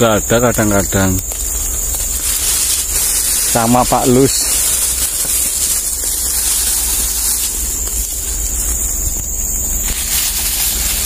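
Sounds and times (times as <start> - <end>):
high-pitched forest hiss: 0.0 - 11.0
wind rumbling on microphone: 0.0 - 11.0.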